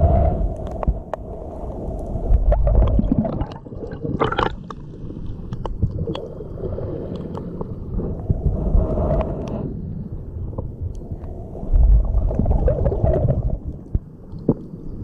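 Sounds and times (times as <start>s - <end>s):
sea water sloshing and gurgling: 0.0s - 15.0s.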